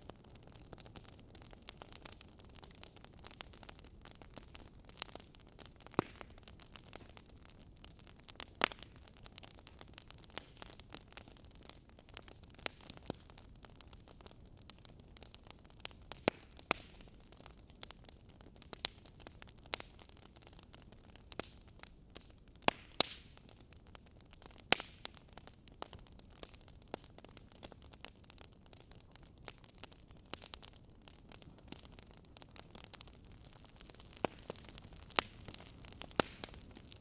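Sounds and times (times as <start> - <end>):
faint steady hiss: 0.0 - 37.0
wood fire crackling: 0.0 - 37.0.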